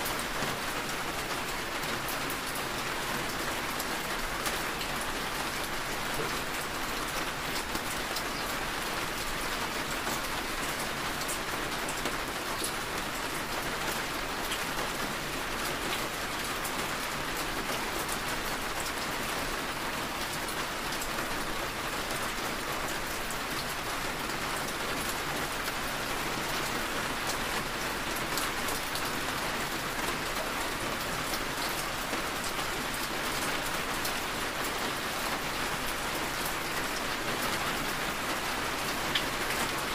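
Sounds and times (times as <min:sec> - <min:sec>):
rain on car windshield and roof: 0:00.0 - 0:39.9.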